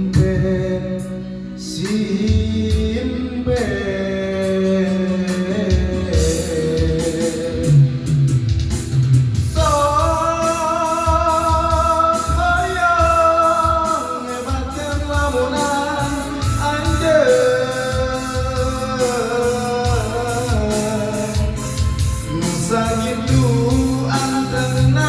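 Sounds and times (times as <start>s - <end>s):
pop song instrumental: 0.0s - 25.0s.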